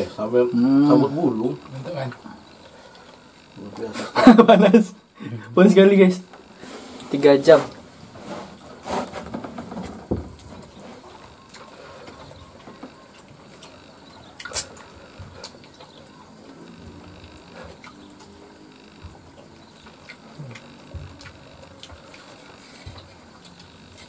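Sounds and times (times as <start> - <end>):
people chewing: 0.0 - 4.4, 6.3 - 24.0.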